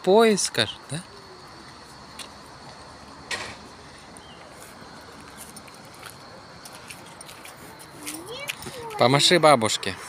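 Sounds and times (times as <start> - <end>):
faint high steady tone: 0.0 - 10.0
outdoor background noise: 0.0 - 10.0.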